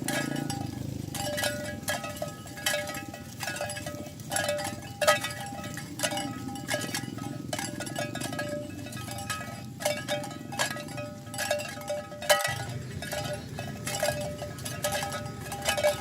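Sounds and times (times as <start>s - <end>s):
cowbells clanking: 0.0s - 16.0s
low steady rumble: 0.0s - 16.0s.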